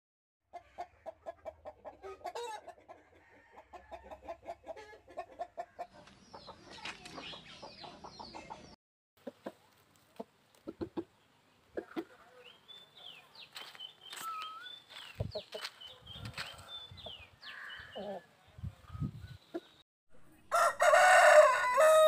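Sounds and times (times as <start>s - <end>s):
chickens clucking: 0.5s - 19.8s.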